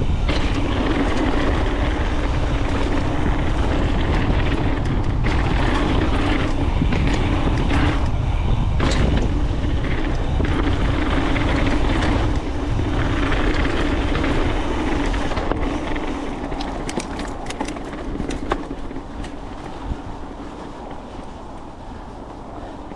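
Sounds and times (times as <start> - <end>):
bike rattling: 0.0 - 22.9
bike tyres rolling on dirt: 0.0 - 22.9
sharp clicks from bike: 0.0 - 22.9
wind rushing over microphone: 0.0 - 22.9.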